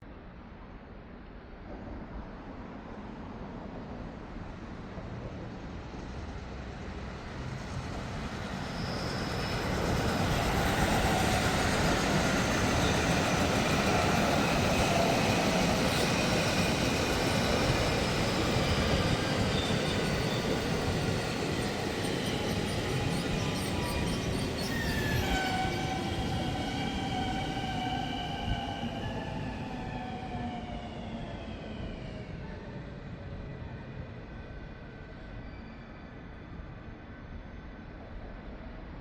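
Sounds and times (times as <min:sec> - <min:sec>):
faint train whine: 0:00.0 - 0:39.0
electric train running on track: 0:02.4 - 0:39.0.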